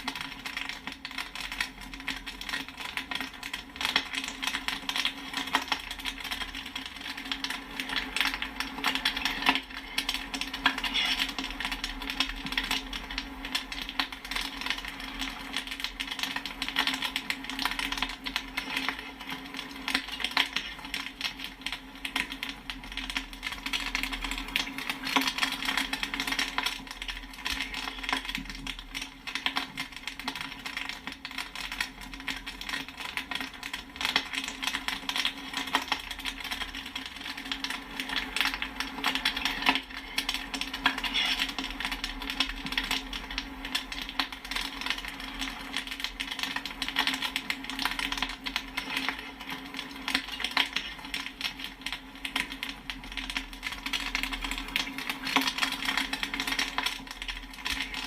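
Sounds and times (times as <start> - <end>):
popcorn popping: 0.0 - 58.0.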